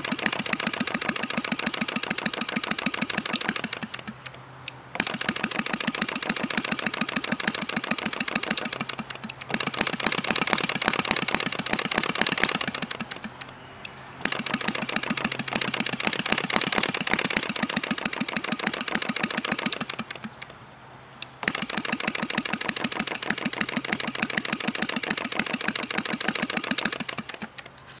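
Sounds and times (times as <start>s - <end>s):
model engine popping: 0.0s - 13.5s, 14.2s - 20.5s, 21.2s - 27.8s.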